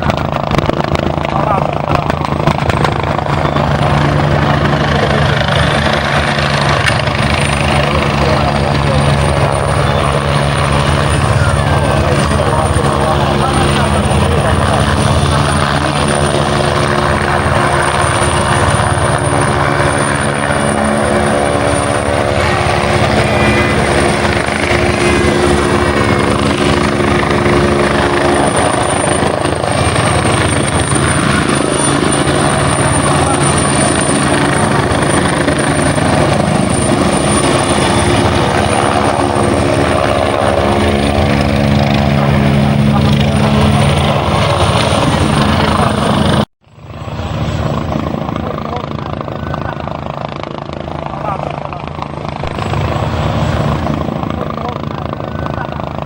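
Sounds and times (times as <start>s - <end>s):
helicopter running: 0.0s - 56.0s.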